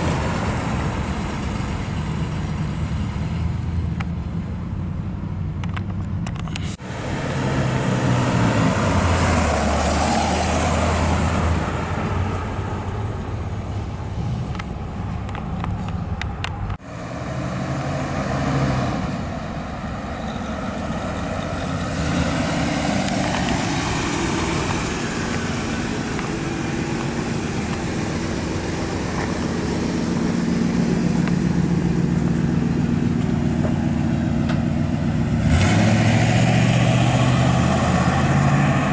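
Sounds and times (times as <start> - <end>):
car engine running while driving: 0.0 - 38.9.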